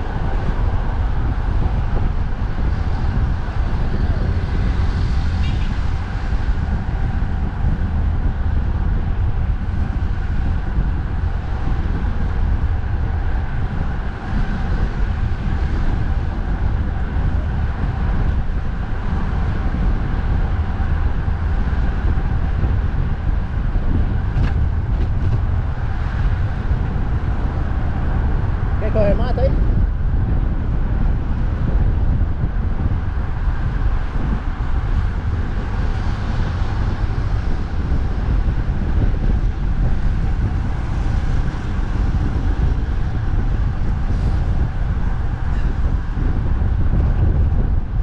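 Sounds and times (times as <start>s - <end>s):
road traffic: 0.0s - 48.0s
wind buffeting microphone: 0.0s - 48.0s.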